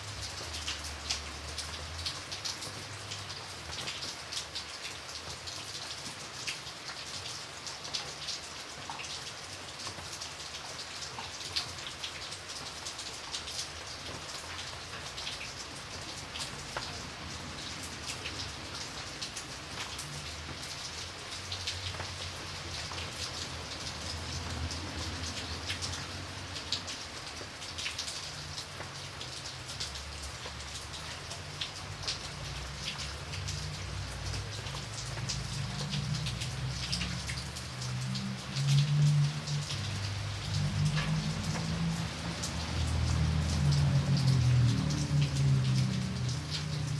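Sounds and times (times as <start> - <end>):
rain pattering on window: 0.0 - 46.9.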